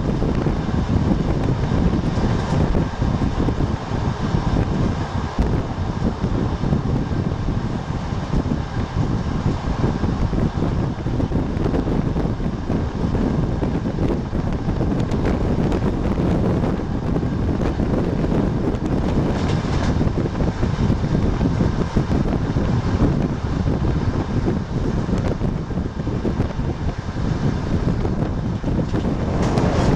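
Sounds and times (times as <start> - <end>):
train rumbling rush: 0.0 - 29.9.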